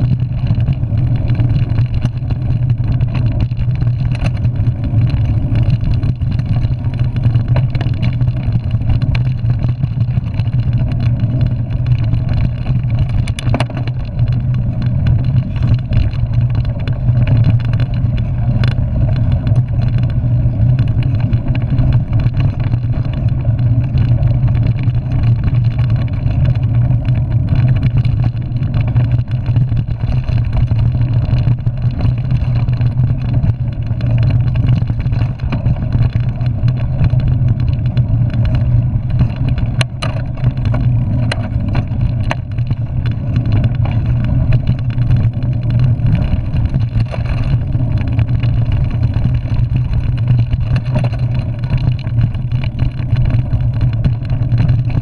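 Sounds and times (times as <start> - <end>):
bike frame rattling: 0.0 - 55.0
bike tyres rumbling on dirt: 0.0 - 55.0.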